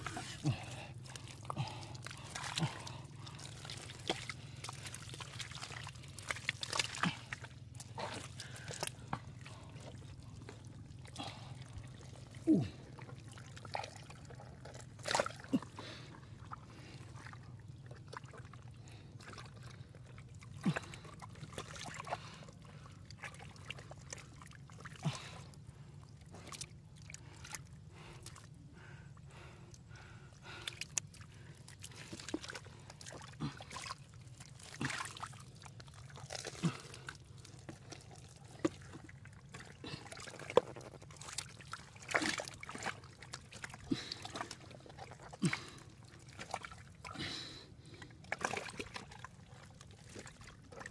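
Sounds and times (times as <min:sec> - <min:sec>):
steady low hum: 0:00.0 - 0:50.8
mud squelching and sloshing: 0:00.0 - 0:50.9.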